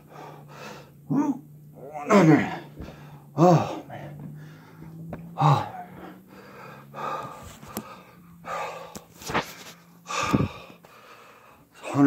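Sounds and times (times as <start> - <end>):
man breathing hard: 0.0 - 1.2, 2.3 - 12.0.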